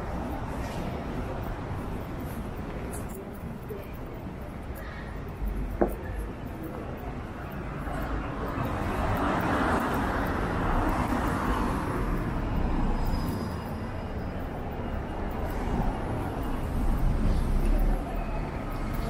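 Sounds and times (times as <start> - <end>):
steady traffic rumble: 0.0 - 19.0.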